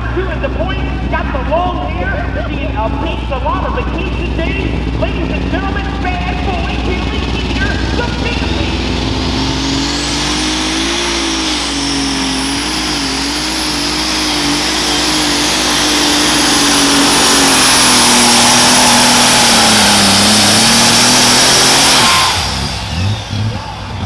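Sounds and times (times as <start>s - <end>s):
high turbo whine: 0.0s - 24.0s
tractor engine at full power: 0.0s - 24.0s.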